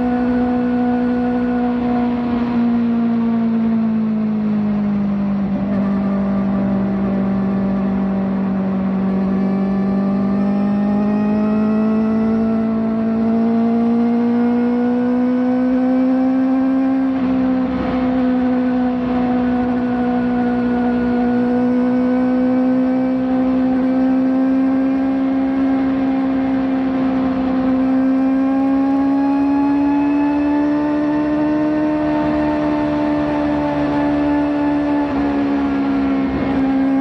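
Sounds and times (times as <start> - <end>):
motorcycle engine at high revs: 0.0 - 37.0.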